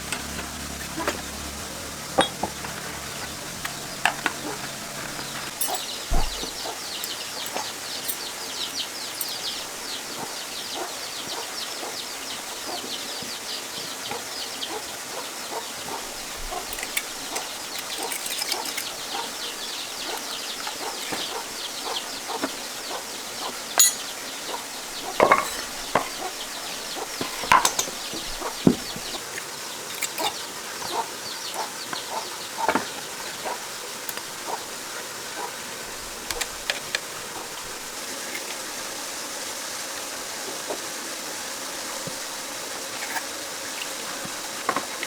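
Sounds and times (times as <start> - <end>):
chickens clucking: 0.0 - 13.1, 14.0 - 29.2, 29.9 - 45.0.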